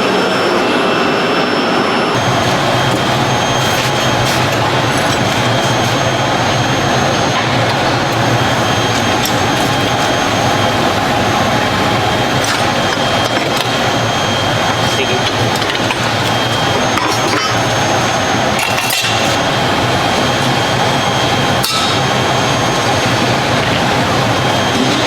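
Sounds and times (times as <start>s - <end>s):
workshop machinery running: 0.0s - 25.0s.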